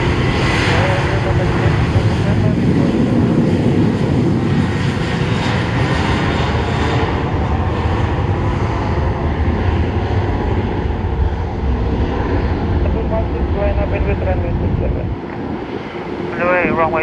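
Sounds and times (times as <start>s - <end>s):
jet airliner engines running: 0.0s - 17.0s.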